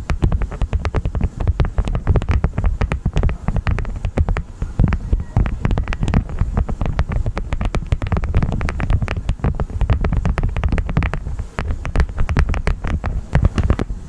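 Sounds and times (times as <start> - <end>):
handling rumble: 0.0 - 14.0
honeycomb crackling: 0.0 - 14.0.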